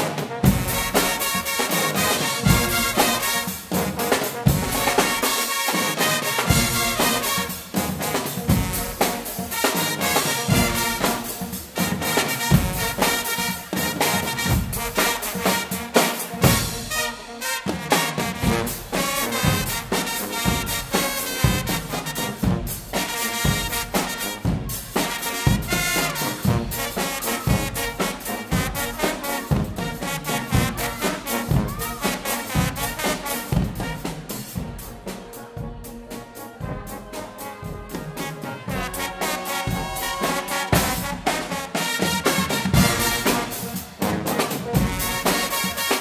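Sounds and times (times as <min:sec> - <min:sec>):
brass band playing: 0:00.0 - 0:46.0
drum kit steady beat: 0:00.0 - 0:46.0.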